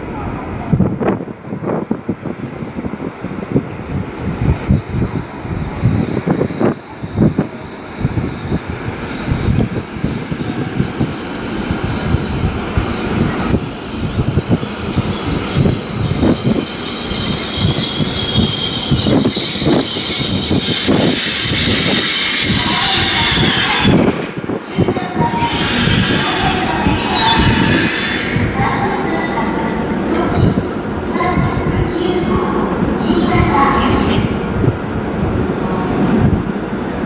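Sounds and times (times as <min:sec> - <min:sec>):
high-speed train rushing past: 0:00.0 - 0:37.0.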